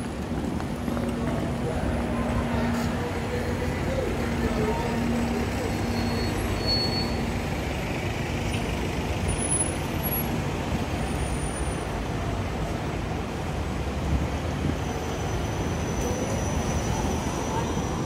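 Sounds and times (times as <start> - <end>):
bus engine running: 0.0 - 18.0
traffic rumble: 0.0 - 18.0.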